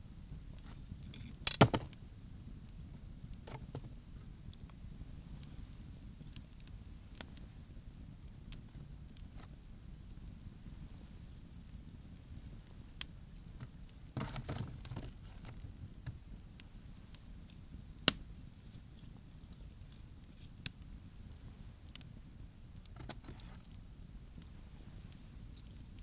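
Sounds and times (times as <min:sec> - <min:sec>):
low steady background noise: 0:00.0 - 0:26.0
wood fire crackling: 0:00.0 - 0:26.0.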